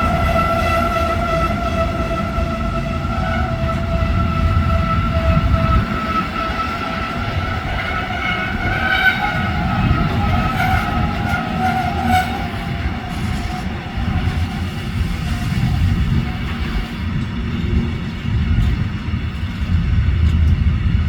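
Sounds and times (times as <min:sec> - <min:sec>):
train brakes squealing: 0:00.0 - 0:17.1.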